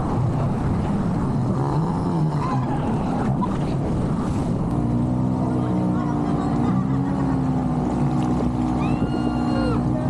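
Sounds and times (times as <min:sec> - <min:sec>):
small boat motor droning: 0:00.0 - 0:10.0.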